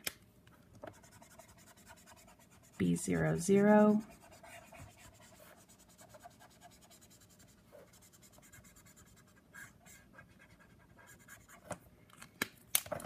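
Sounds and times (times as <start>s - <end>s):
marker scratching across paper: 0.9s - 11.7s.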